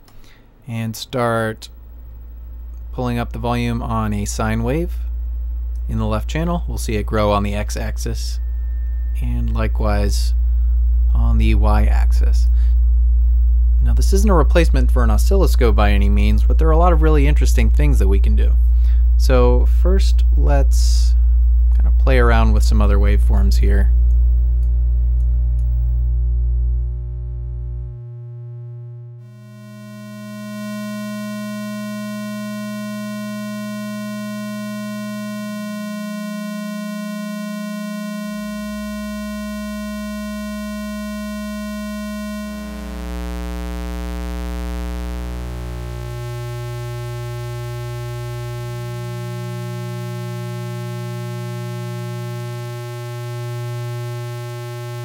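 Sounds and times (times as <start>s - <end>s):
low electronic tones: 0.0s - 55.0s.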